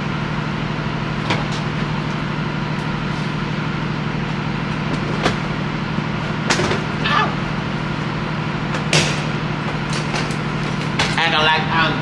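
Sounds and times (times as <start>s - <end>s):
vehicle humming: 0.0s - 12.0s.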